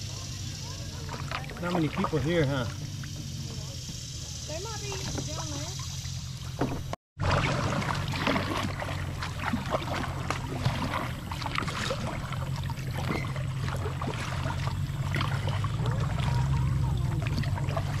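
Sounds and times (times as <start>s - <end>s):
moving water rumble: 0.0s - 18.0s
paddle splashes and drips: 0.1s - 18.0s.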